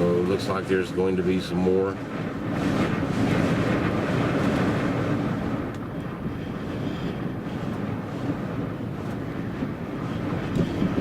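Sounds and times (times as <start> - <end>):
strong wind against vehicle: 0.0 - 11.0.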